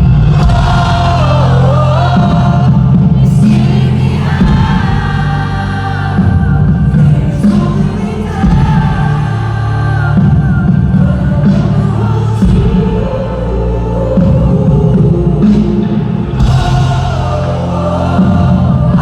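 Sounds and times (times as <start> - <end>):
crowd singing along: 0.0 - 19.0
heavy bass: 0.0 - 19.0
live band music: 0.2 - 19.0.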